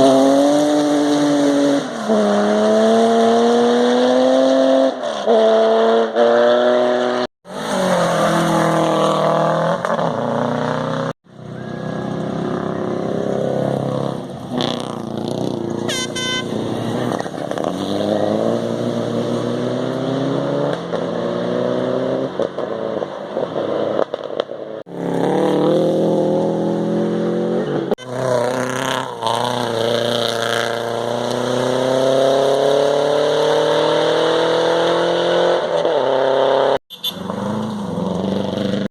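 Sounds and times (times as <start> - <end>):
rally car engines revving past: 0.0 - 15.9, 16.5 - 38.9.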